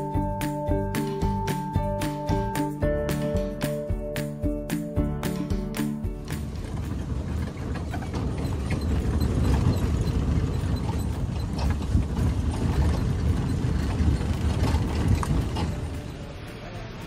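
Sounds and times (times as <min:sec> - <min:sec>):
jeep engine and tyre rumble: 0:00.0 - 0:17.0.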